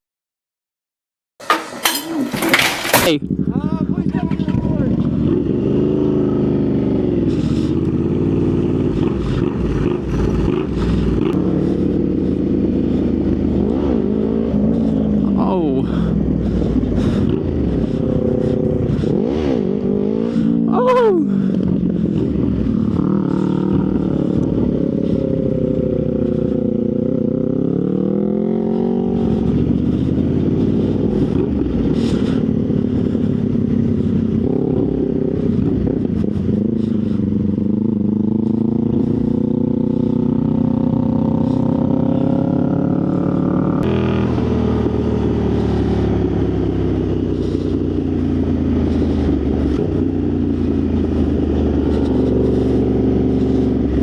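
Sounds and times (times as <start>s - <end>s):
motorcycle engine revving: 1.4s - 54.0s.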